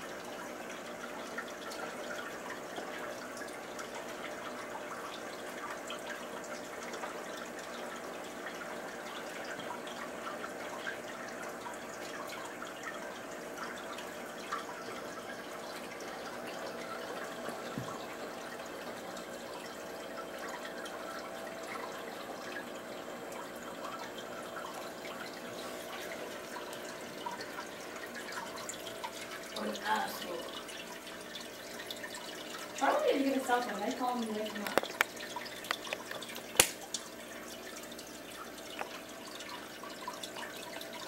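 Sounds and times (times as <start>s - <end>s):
faint steady hum: 0.0s - 41.0s
water trickling and dripping: 0.0s - 41.0s.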